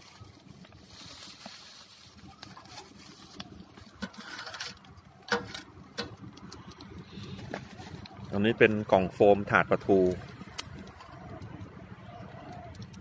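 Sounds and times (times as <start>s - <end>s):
plastic burning crackles: 0.0s - 13.0s.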